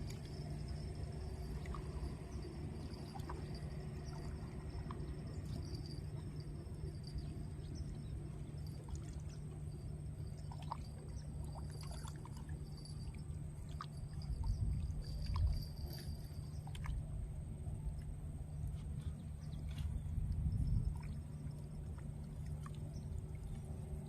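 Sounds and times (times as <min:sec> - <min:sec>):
steady low hum: 0:00.0 - 0:24.0
water lapping around a boat: 0:00.0 - 0:24.0.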